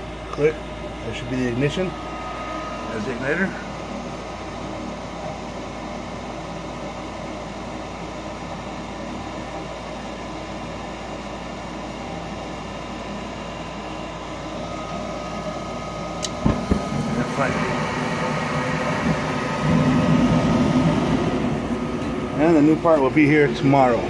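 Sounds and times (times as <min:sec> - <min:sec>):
furnace blower motor humming: 0:00.0 - 0:24.0.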